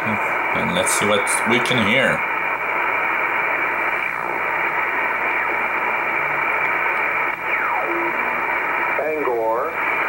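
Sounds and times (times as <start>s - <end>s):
shortwave radio hiss: 0.0s - 10.0s.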